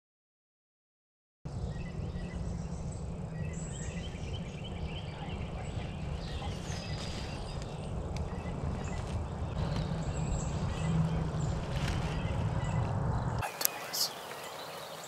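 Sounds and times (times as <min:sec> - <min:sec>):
steady low rumble: 0:01.5 - 0:14.6
songbirds chirping: 0:01.5 - 0:15.0.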